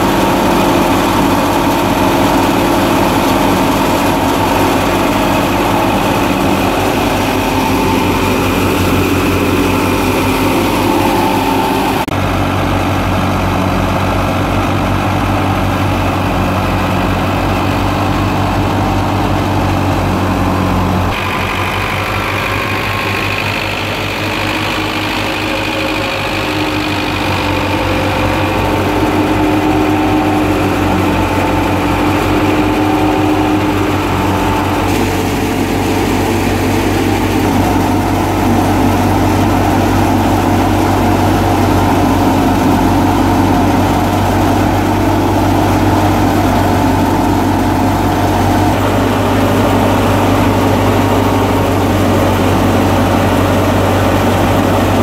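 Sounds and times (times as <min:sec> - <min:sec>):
thresher drum and belts whirring: 0:00.0 - 0:55.0
tractor diesel engine under load: 0:00.0 - 0:55.0.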